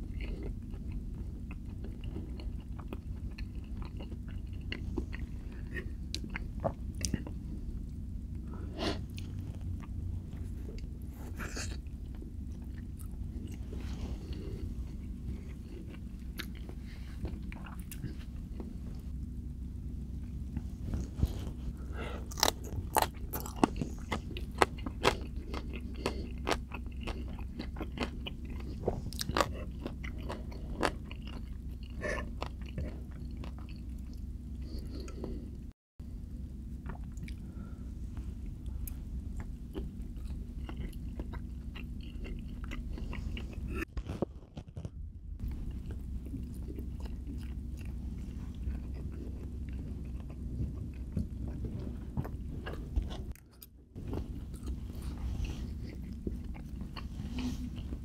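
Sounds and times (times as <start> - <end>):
chewing and crunching food: 0.0 - 58.0
low hum: 0.0 - 58.0.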